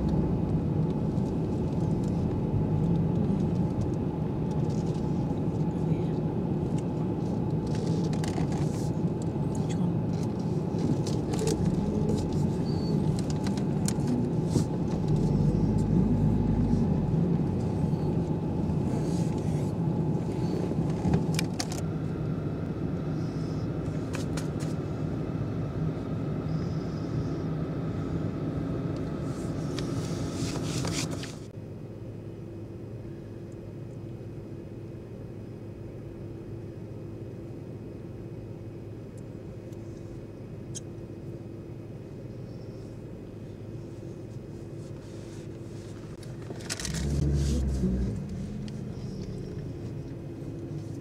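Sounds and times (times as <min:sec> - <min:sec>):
car engine and tyre rumble: 0:00.0 - 0:51.0.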